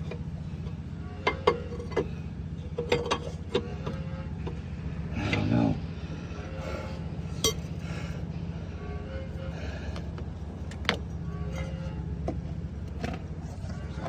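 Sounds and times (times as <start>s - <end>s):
engine pulsing hum: 0.0s - 14.0s.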